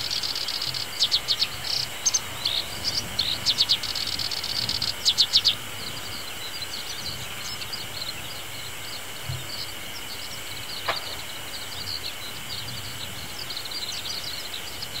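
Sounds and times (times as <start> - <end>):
grass cutter engine hum: 0.0 - 14.6
loud sharp bird song notes: 0.0 - 15.0
skylark chirping and twittering: 0.0 - 15.0.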